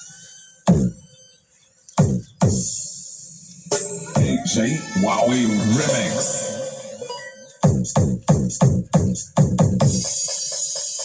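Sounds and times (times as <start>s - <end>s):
electronic dance music: 0.1s - 1.2s, 2.0s - 11.0s.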